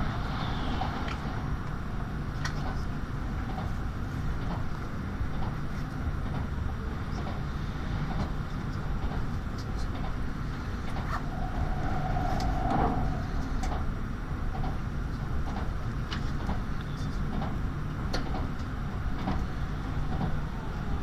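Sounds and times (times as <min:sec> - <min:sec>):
train cabin rumble: 0:00.0 - 0:21.0.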